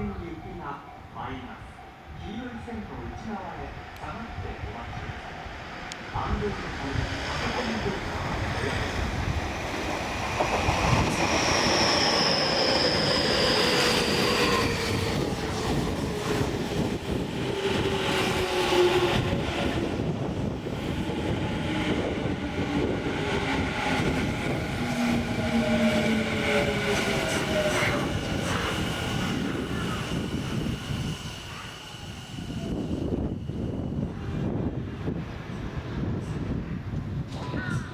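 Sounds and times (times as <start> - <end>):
electric train slowing: 5.3 - 36.6.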